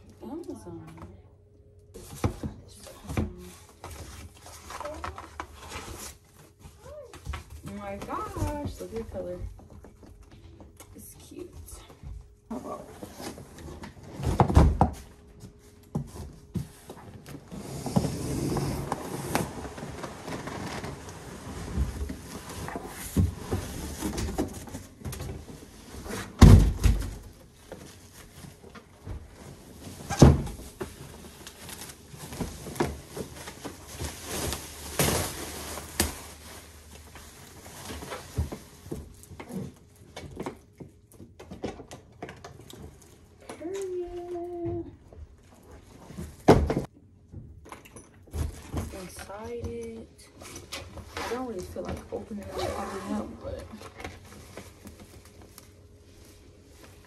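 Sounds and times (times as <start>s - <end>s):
cardboard and plastic wrap rustling: 1.8s - 57.0s.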